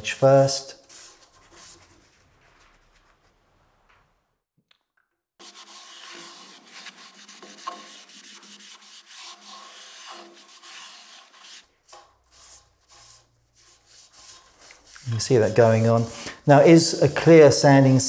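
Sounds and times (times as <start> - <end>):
cloth rubbing on wood: 0.0 - 3.9, 5.4 - 18.0.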